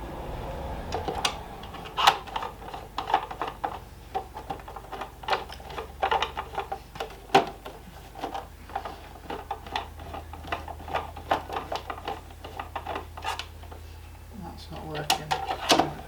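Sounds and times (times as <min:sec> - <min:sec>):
plastic parts clicking and knocking: 0:00.9 - 0:13.9, 0:14.7 - 0:16.0.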